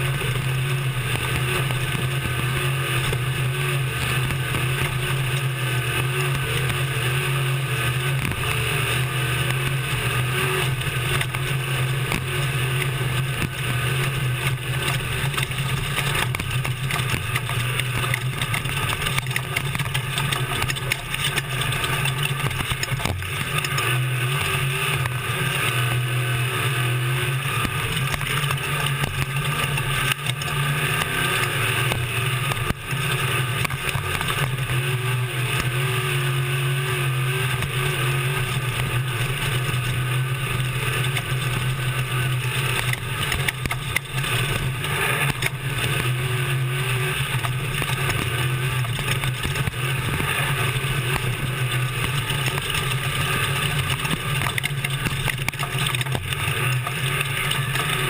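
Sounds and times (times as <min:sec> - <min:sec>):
truck engine running hard: 0:00.0 - 0:58.0
rattling and knocks over rough ground: 0:08.1 - 0:25.9, 0:27.5 - 0:35.8, 0:37.3 - 0:58.0.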